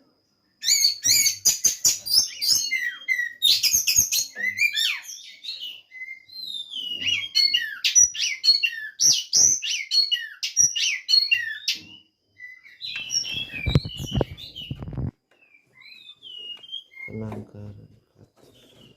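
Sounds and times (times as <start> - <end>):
birds whistling and chirping: 0.6 - 17.4, 18.4 - 18.9.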